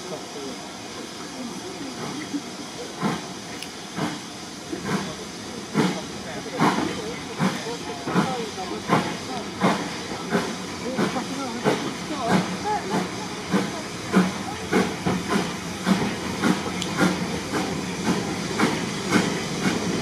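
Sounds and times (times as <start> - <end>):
steam hissing: 0.0 - 20.0
steam locomotive chuffing: 0.0 - 20.0.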